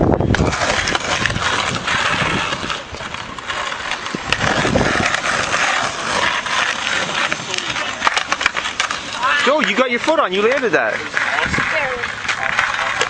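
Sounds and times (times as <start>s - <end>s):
skateboard clacks: 0.0s - 13.0s
skateboard wheels rumbling: 0.0s - 13.0s.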